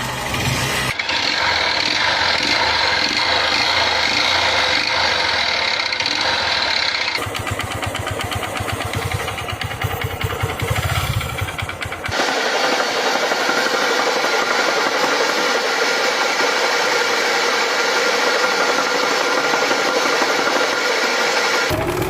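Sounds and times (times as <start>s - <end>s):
motorcycle engine whine: 0.0s - 22.0s.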